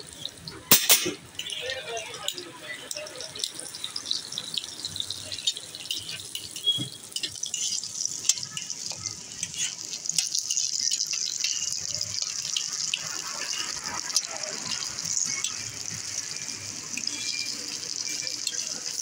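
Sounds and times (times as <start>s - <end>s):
oil sizzling on a griddle: 0.0s - 19.0s
crackles and ticks: 2.2s - 19.0s.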